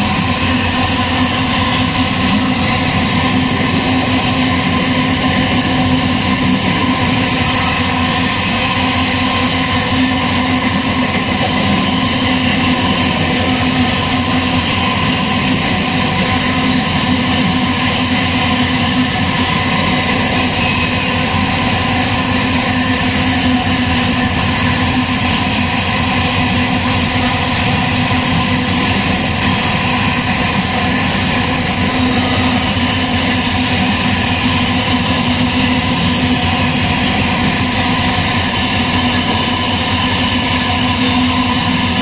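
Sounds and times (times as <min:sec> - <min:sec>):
freight train passing: 0:00.0 - 0:42.0.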